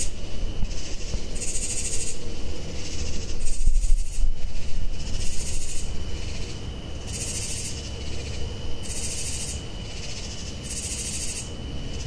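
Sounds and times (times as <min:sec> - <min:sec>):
high insect chorus: 0:00.0 - 0:12.0
night birds calling: 0:00.0 - 0:12.0.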